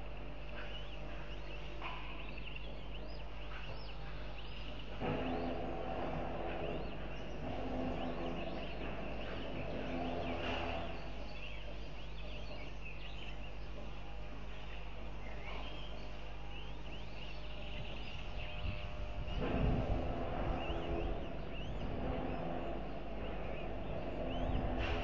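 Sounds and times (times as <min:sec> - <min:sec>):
low buzzing hum: 0:00.0 - 0:25.0.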